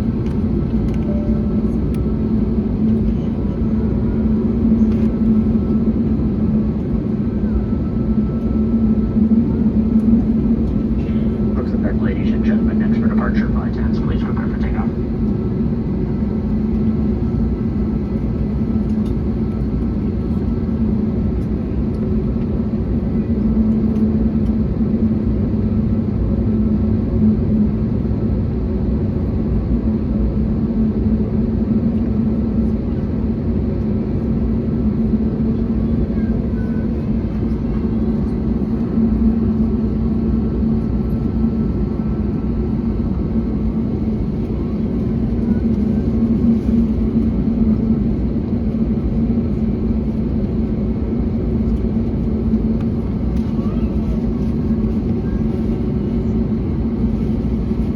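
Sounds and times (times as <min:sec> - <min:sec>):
airliner cabin drone: 0:00.0 - 0:57.9
steady low hum: 0:00.0 - 0:57.9.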